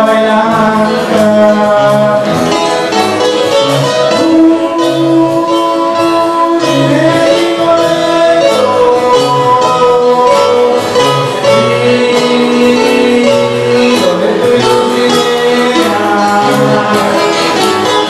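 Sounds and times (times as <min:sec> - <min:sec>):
classical guitars playing together: 0:00.0 - 0:18.0.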